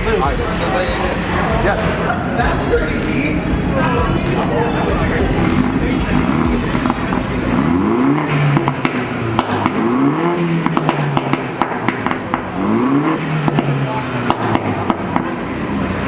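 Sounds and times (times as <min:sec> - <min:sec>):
exhaust pops and clicks: 0:00.0 - 0:15.4
car engine revving: 0:00.0 - 0:16.0.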